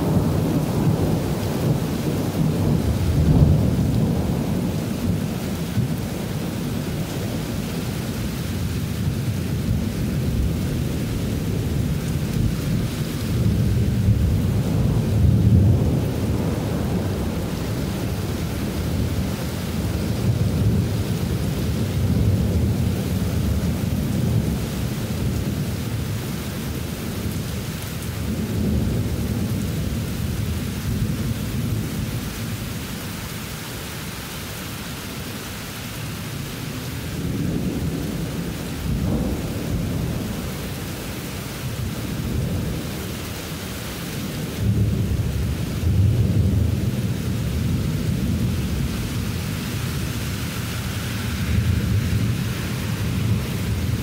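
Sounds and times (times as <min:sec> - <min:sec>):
rolling thunder: 0:00.0 - 0:32.7, 0:37.1 - 0:43.3, 0:44.2 - 0:50.3, 0:51.0 - 0:54.0
heavy rain hissing: 0:00.0 - 0:54.0.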